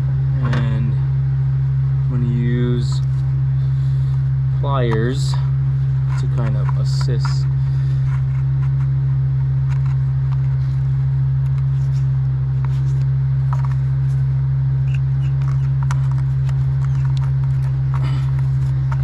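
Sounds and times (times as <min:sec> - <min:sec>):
loud steady low machine hum: 0:00.0 - 0:19.0.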